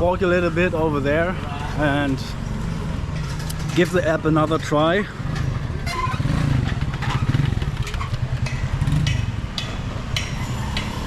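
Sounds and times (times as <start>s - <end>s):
low traffic hum: 0.0s - 11.0s
vehicle engines passing: 0.0s - 11.0s.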